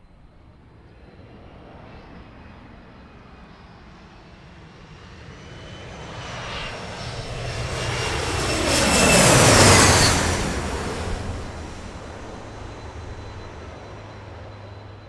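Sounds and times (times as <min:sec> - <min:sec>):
airliner passing by: 0:00.0 - 0:15.0.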